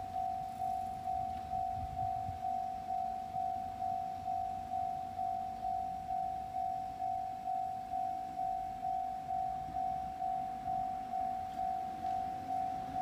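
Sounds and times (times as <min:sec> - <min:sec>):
level crossing warning bell ringing: 0:00.0 - 0:13.0.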